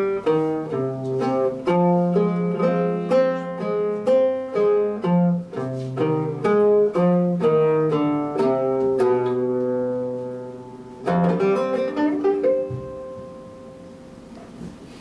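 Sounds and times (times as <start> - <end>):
solo oud playing: 0.0 - 14.3.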